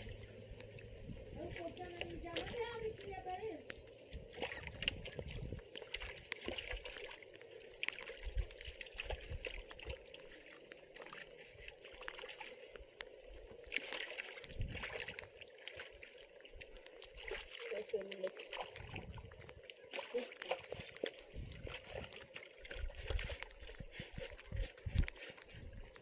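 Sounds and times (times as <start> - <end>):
water drips: 0.0 - 26.0
water trickling and splashing: 0.0 - 26.0.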